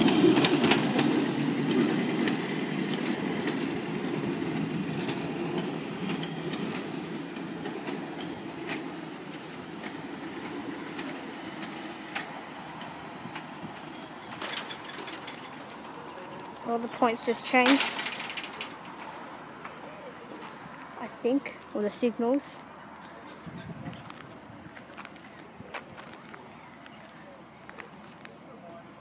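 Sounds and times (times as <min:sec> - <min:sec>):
wheels clicking over rail joints: 0:00.0 - 0:23.4
truck rolling on railway track: 0:00.0 - 0:29.0.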